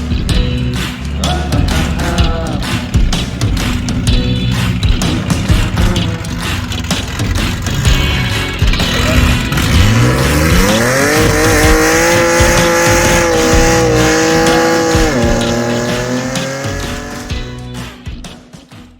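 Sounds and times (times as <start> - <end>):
truck engine revving: 0.0 - 18.0
music: 0.0 - 18.9.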